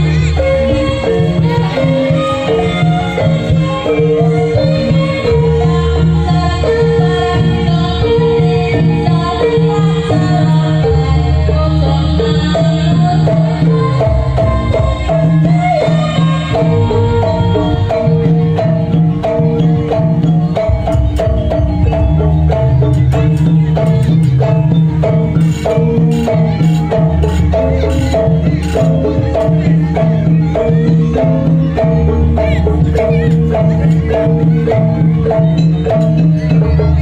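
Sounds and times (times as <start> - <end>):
low drumming: 0.0 - 37.0.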